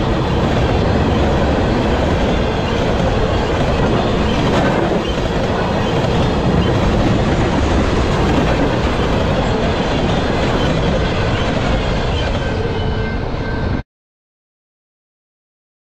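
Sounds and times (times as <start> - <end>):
freight train rumbling past: 0.0 - 13.8.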